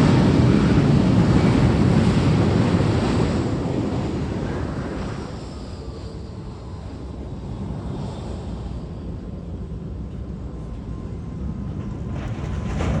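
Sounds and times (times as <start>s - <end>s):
faint high engine whine: 0.0s - 13.0s
jet engines rumbling: 0.0s - 13.0s.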